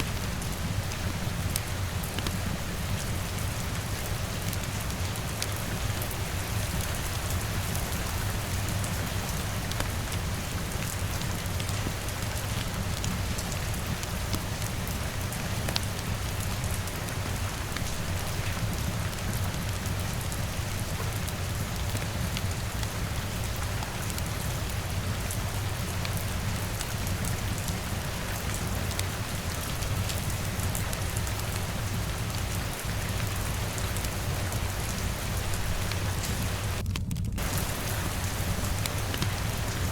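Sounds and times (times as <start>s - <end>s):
rain against a window: 0.0s - 39.9s.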